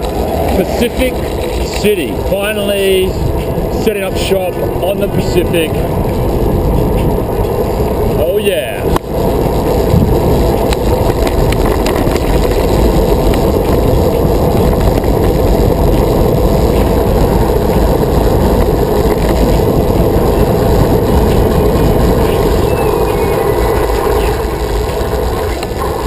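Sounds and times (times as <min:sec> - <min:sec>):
tyre noise on road: 0:00.0 - 0:26.0
wind buffeting microphone: 0:00.0 - 0:26.0.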